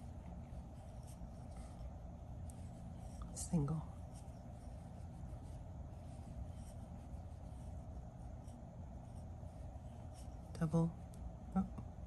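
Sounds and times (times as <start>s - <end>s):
low room hum: 0.0s - 12.0s
yarn rustling through crochet hook: 0.0s - 12.0s.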